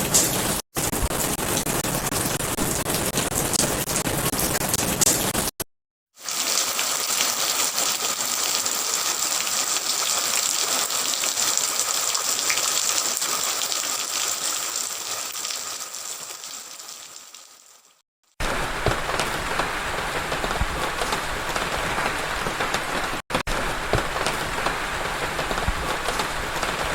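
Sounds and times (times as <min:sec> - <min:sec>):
steady rain: 0:00.0 - 0:05.5, 0:06.2 - 0:26.9.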